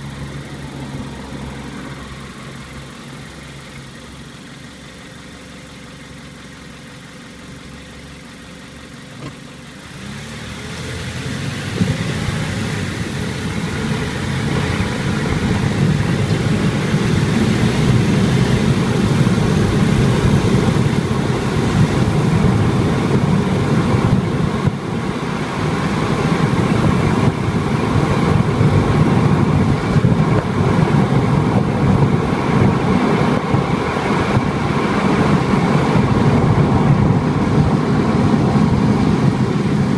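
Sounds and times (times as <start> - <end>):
car driving away: 0.0 - 5.4, 8.0 - 39.9
car engine idling: 0.0 - 39.9.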